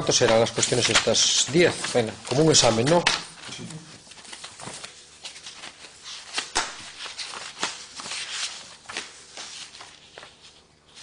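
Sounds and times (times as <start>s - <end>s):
papers rustling on a desk: 0.1s - 11.0s.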